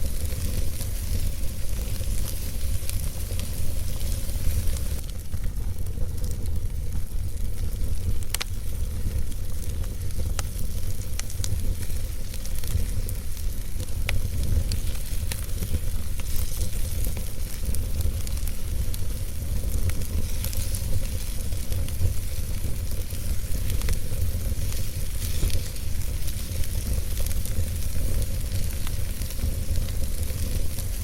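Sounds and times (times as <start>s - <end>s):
fire rumbling and hissing: 0.0s - 31.0s
logs crackling and popping: 0.0s - 31.0s.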